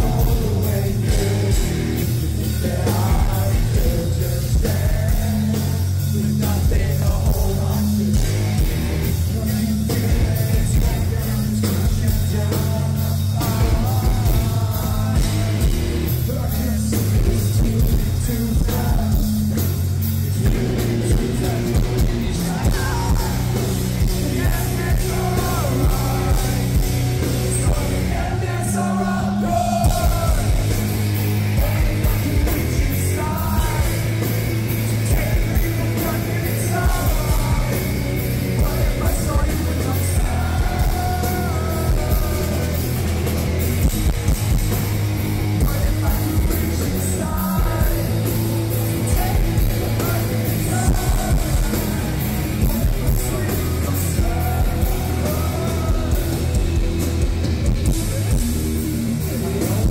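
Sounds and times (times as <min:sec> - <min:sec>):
bass: 0:00.0 - 0:59.9
distorted electric guitars: 0:00.0 - 0:59.9
drums: 0:00.0 - 0:59.9
singer singing and yelling: 0:00.0 - 0:59.9.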